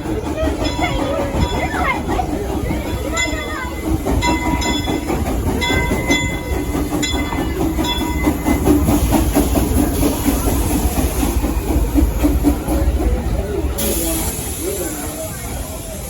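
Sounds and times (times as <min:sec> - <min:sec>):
wheels clacking over rail joints: 0:00.0 - 0:14.5
train cars rumbling: 0:00.0 - 0:16.0.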